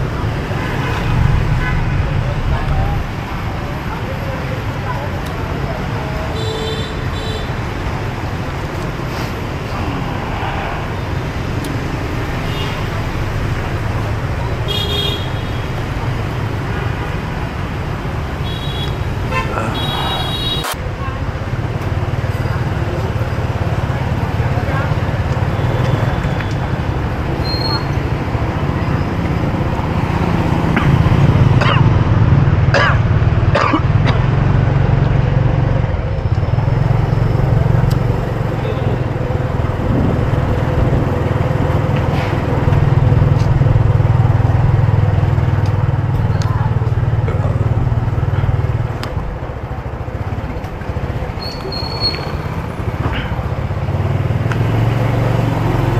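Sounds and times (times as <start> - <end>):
street traffic rumble: 0.0 - 55.9.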